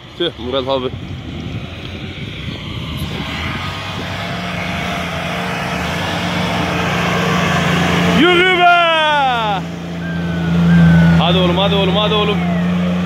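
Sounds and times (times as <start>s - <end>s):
vehicle engine under load: 0.0s - 13.0s.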